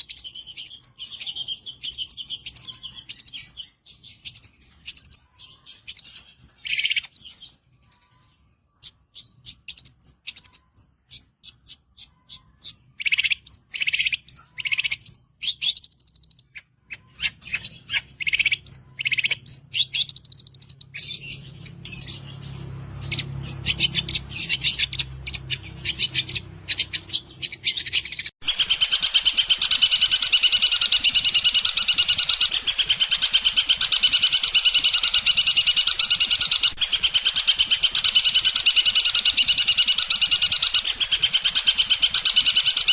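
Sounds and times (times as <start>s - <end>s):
fast bird trill: 0.0s - 8.2s, 8.8s - 42.9s
bird chirping sharp high notes: 0.0s - 42.9s.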